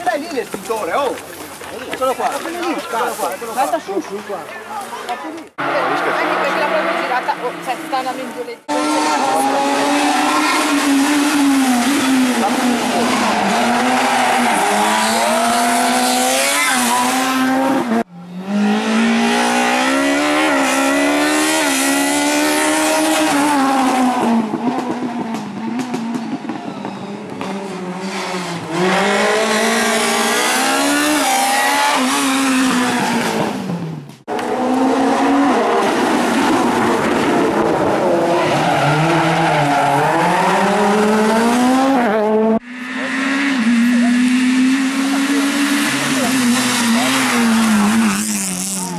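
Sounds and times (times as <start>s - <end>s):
rally car engines revving: 5.2s - 48.9s.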